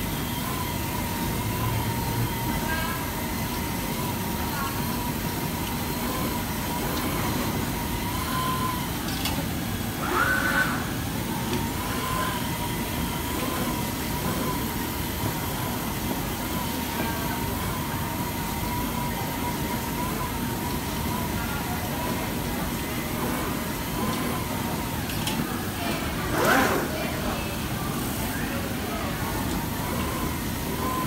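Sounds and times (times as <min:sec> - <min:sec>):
cutter machine high whine: 0:00.0 - 0:31.0
low factory hum: 0:00.0 - 0:31.0.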